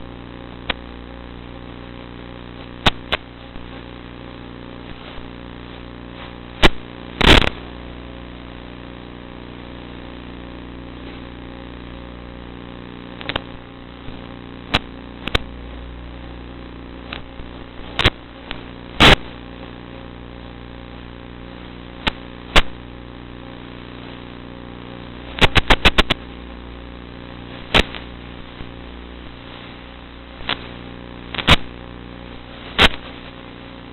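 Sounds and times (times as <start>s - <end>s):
sharp clicks and cracks: 0.0s - 7.8s, 11.0s - 15.7s, 17.0s - 33.9s.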